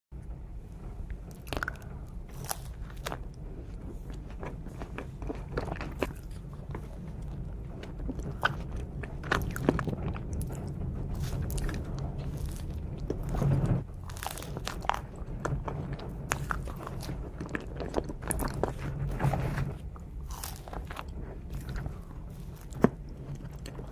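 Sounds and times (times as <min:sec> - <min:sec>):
steady low hum: 0:00.1 - 0:23.9
crisp bites and crunches: 0:01.3 - 0:03.4, 0:04.1 - 0:23.9
wet chewing and mouth clicks: 0:01.3 - 0:23.9.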